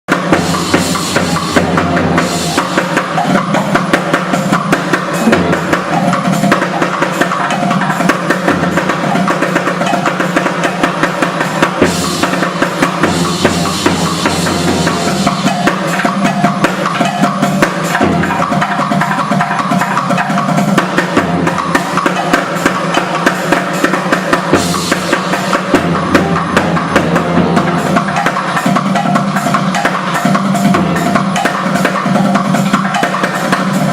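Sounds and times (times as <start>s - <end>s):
drum kit beat: 0.1s - 33.9s
live band playing: 0.1s - 33.9s.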